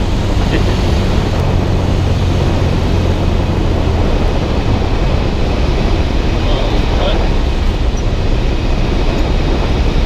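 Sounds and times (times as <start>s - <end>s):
plane engine and propeller droning: 0.0s - 10.0s
rushing air noise: 0.0s - 10.0s.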